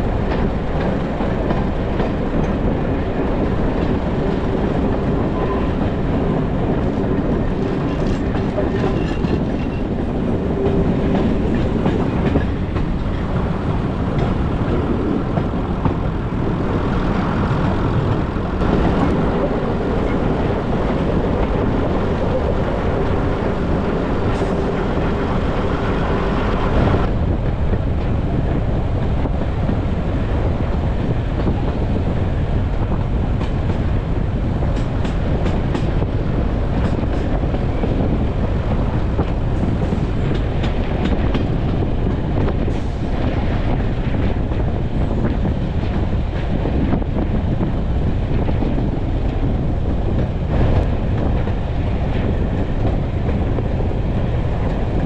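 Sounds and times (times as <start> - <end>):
train wheels rumbling on rails: 0.0 - 55.0
wind on microphone: 0.0 - 55.0.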